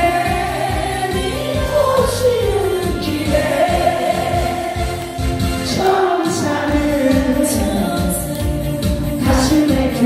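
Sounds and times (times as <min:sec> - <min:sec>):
karaoke backing track: 0:00.0 - 0:10.0
person singing into microphone: 0:00.0 - 0:10.0.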